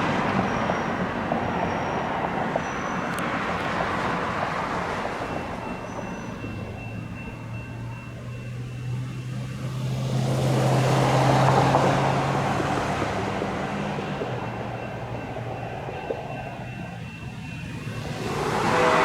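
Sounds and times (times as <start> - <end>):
light rail train passing: 0.0 - 19.0.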